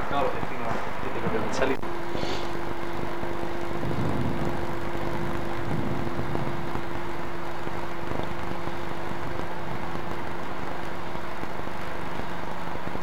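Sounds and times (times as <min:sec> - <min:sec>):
ferry machinery drone: 0:00.0 - 0:13.0
low rumble: 0:01.8 - 0:13.0.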